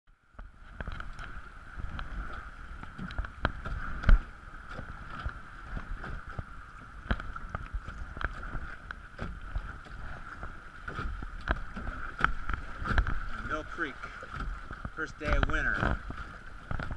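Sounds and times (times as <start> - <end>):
kayak paddle splashing: 0.1 - 16.9
water rushing: 0.1 - 16.9
wind rumble on microphone: 0.3 - 16.9.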